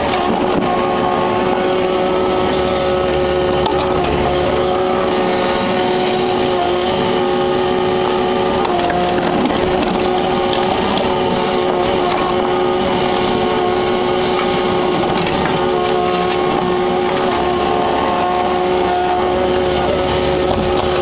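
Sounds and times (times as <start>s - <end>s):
excavator diesel engine running: 0.0s - 21.0s
high steady whine: 0.0s - 21.0s.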